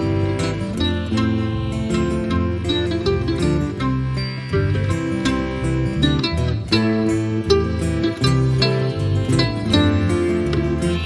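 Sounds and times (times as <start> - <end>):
acoustic guitars strumming: 0.0 - 11.0
mandolin picking: 0.0 - 11.0.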